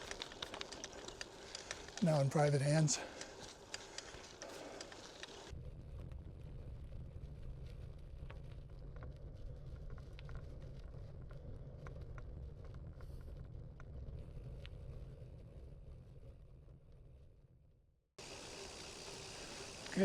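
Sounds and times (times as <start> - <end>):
bike rolling on gravel: 0.0 - 15.6, 18.2 - 20.0
gravel ticking under tyres: 0.0 - 15.7, 18.2 - 20.0.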